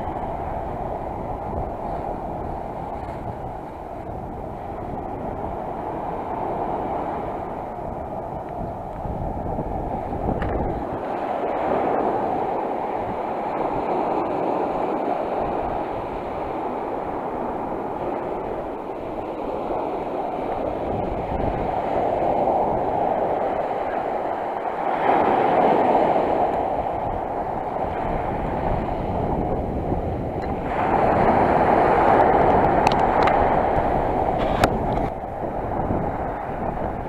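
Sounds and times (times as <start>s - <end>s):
sea surf rushing on shore: 0.0s - 37.0s
wind on microphone: 0.0s - 37.0s.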